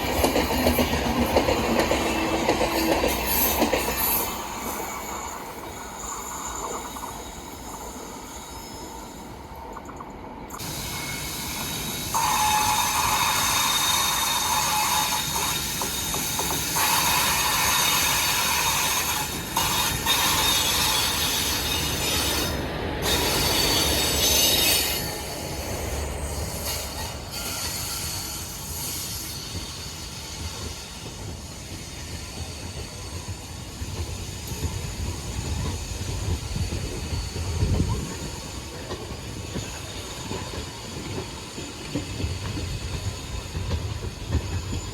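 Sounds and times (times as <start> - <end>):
train wheels on rails: 0.0 - 44.9.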